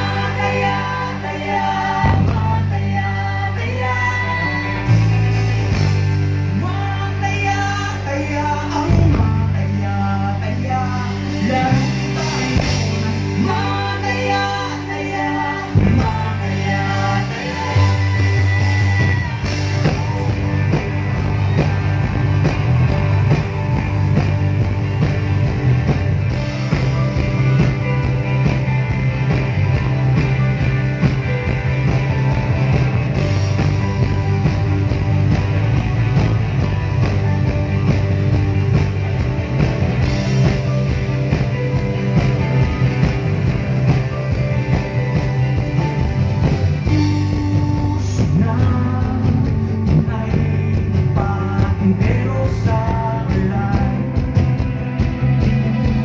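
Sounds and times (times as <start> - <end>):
bass guitar: 0.0 - 56.0
electric guitars: 0.0 - 56.0
keyboard: 0.0 - 56.0
drums steady beat: 10.5 - 56.0.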